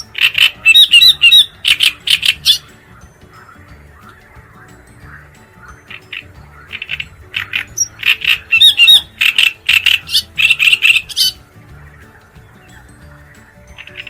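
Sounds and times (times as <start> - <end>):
bird singing rasping notes: 0.0 - 14.0
soft background music: 0.0 - 14.0.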